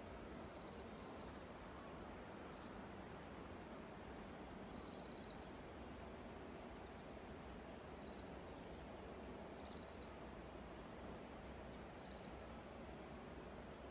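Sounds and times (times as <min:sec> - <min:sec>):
steady low hiss: 0:00.0 - 0:13.9.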